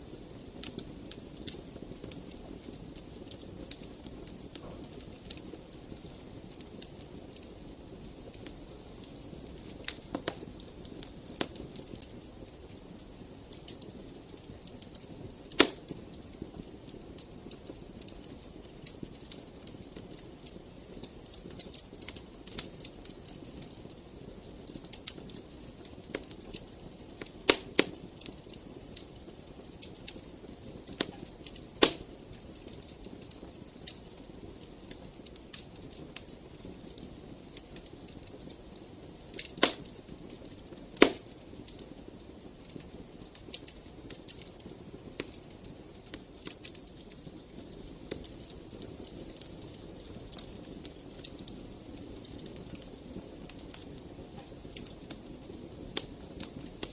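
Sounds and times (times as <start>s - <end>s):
fireplace fire crackling: 0.0s - 56.9s.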